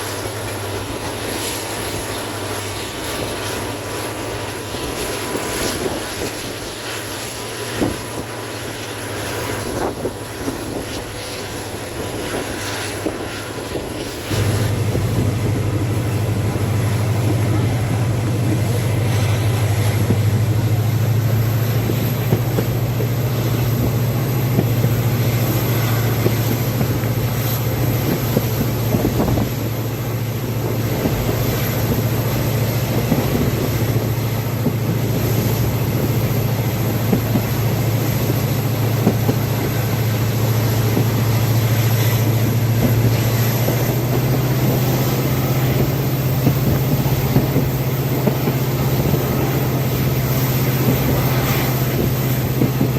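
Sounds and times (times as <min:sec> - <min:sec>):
locomotive engine droning: 0:00.0 - 0:52.9
train wheels knocking on track: 0:00.0 - 0:52.9.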